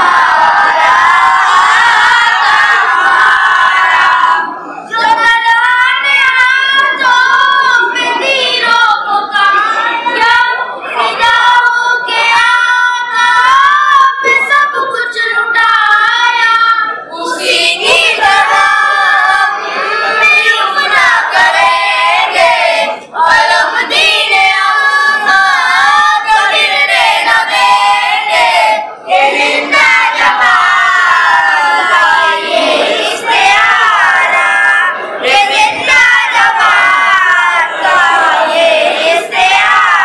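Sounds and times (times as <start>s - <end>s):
boys singing in unison: 0.0s - 40.0s.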